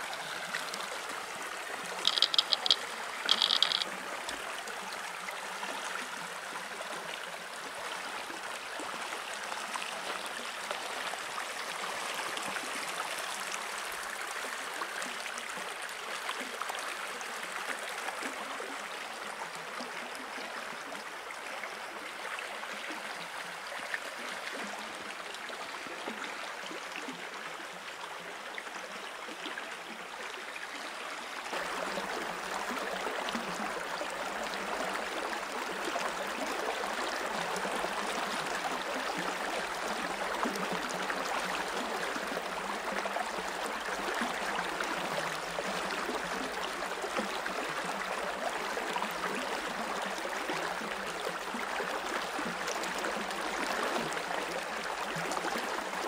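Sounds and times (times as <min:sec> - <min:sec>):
small river flowing: 0:00.0 - 0:56.0.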